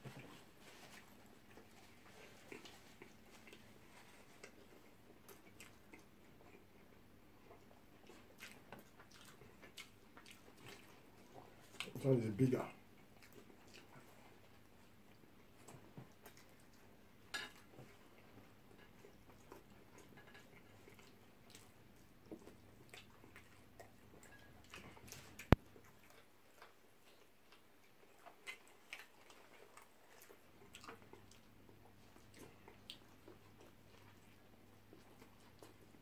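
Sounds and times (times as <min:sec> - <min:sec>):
people chewing food: 0:00.0 - 0:36.0.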